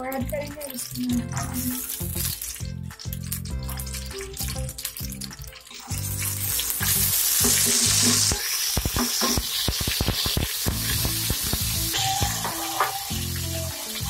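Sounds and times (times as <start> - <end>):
garlic sizzling in oil: 0.0 - 14.0.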